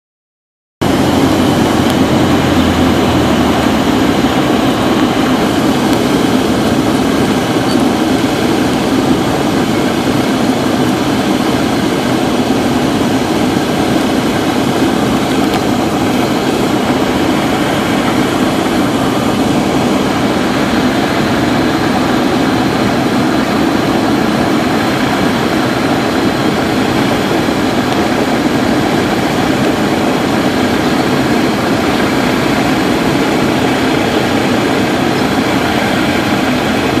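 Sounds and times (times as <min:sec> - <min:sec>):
plane engine and propeller: 0:00.8 - 0:37.0.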